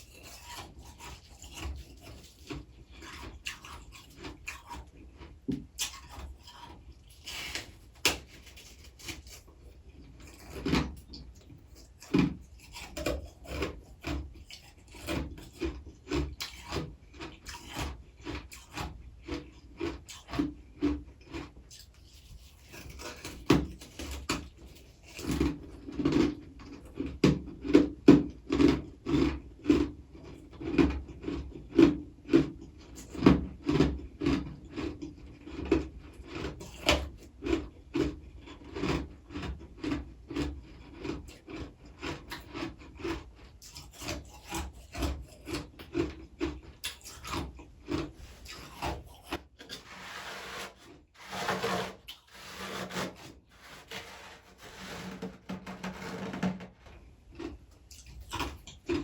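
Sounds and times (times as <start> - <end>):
chewing crunchy frost: 0.0 - 50.1, 56.8 - 59.0.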